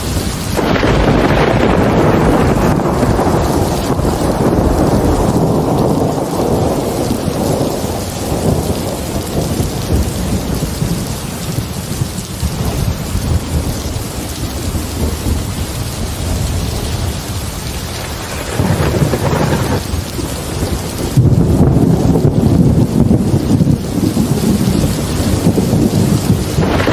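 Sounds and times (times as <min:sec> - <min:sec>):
heavy rain falling: 0:00.0 - 0:26.9
rolling thunder: 0:00.0 - 0:26.9.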